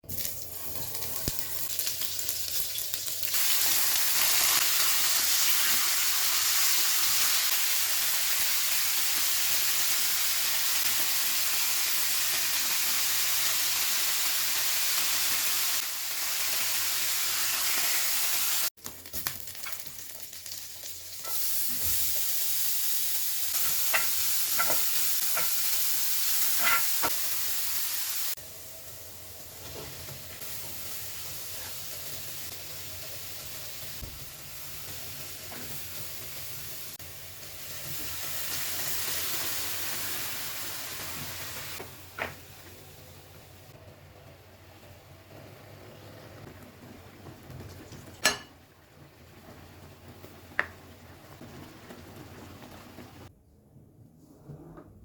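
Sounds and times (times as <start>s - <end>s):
food sizzling in a pan: 0.0s - 43.7s, 44.3s - 53.3s.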